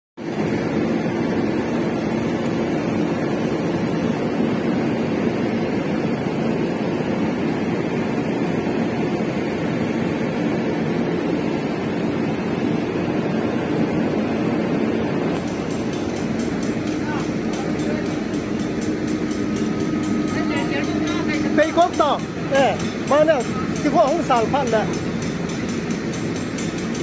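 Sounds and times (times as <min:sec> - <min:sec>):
diesel engine running: 0:00.2 - 0:27.0.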